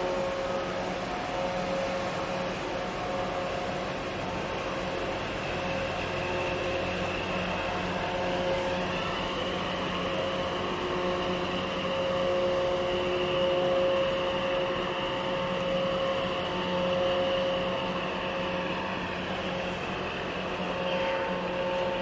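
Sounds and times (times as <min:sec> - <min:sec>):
ship diesel engines droning: 0:00.0 - 0:22.0.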